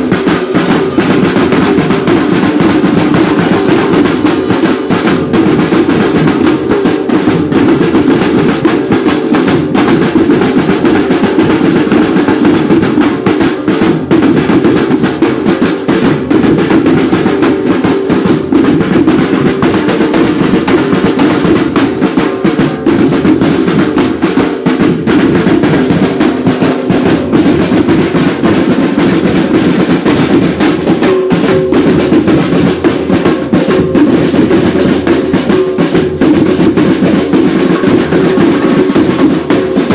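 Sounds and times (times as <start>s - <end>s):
marching drum line playing: 0.0s - 39.9s.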